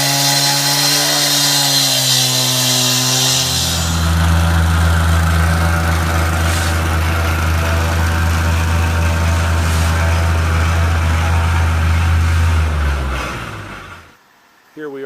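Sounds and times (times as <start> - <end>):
power broom engine running: 0.0 - 14.1.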